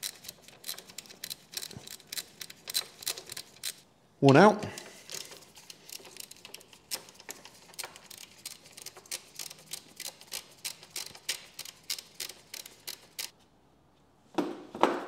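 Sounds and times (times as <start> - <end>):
ratchet clicking: 0.0 - 3.8, 5.1 - 13.3.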